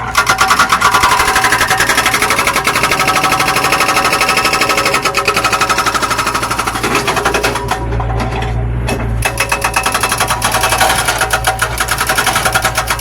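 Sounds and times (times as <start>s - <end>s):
excavator engine hum: 0.0s - 13.0s
metallic clatter: 0.0s - 13.0s.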